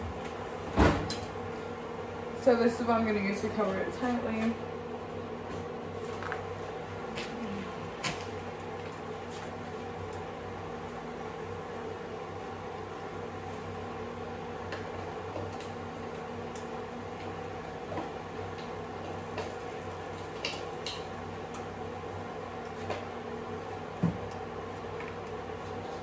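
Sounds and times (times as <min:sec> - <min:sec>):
kitchen appliance humming: 0:00.0 - 0:26.0.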